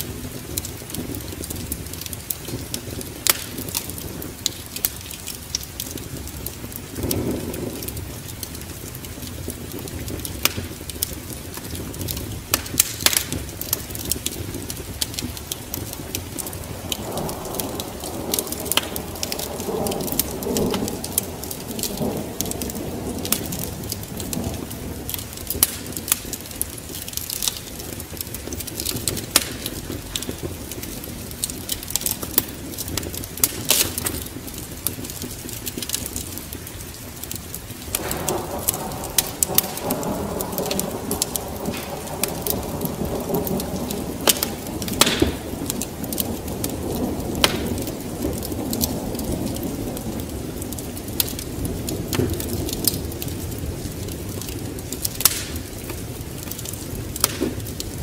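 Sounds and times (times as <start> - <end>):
low thunder rumble: 0.0 - 58.0
steady rain: 0.0 - 58.0
wood fire crackling: 0.0 - 58.0.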